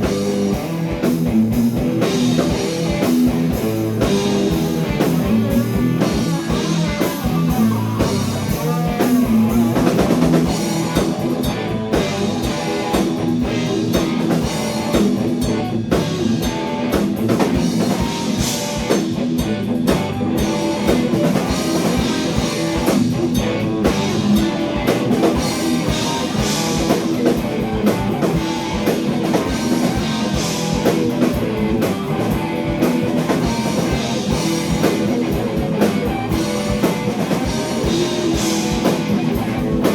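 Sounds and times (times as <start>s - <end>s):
drum kit pounding: 0.0s - 39.9s
electric guitar: 0.0s - 39.9s.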